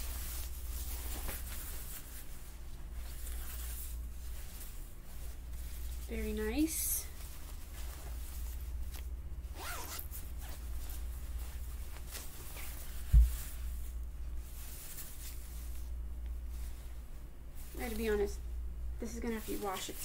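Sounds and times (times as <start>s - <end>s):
jacket fabric and zipper swishing: 0.0s - 16.8s.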